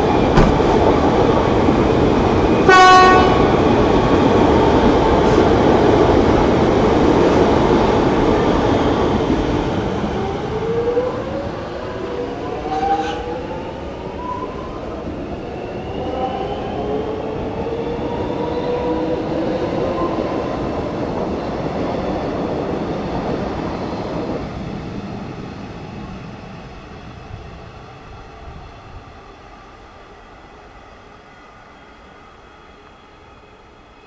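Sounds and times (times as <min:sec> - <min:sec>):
electric train whine: 0:00.0 - 0:34.0
wheels rumbling on rail: 0:00.0 - 0:34.0.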